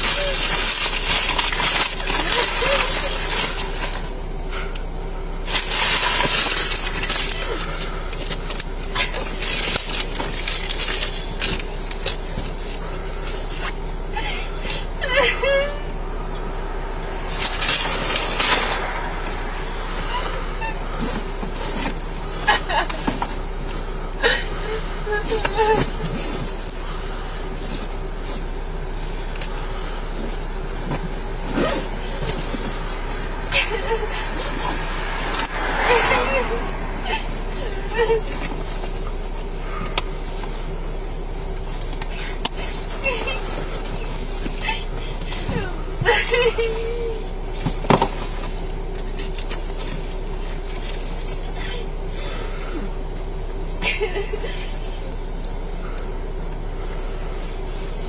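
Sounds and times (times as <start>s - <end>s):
close rustling and scraping: 0.0s - 15.1s, 16.1s - 58.0s
steady vehicle noise: 0.0s - 58.0s.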